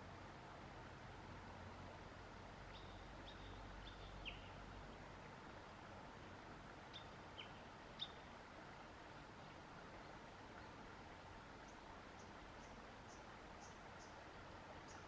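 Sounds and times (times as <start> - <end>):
quiet background hiss: 0.0 - 15.0.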